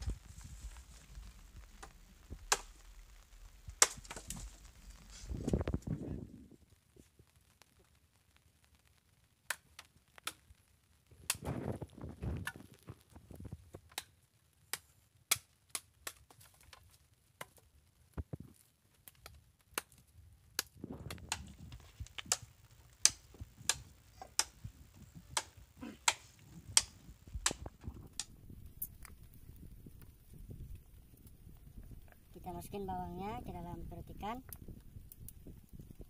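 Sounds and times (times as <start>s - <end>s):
sharp pops from fire: 0.0s - 32.3s, 34.2s - 36.0s
wood fire crackling: 0.0s - 36.0s.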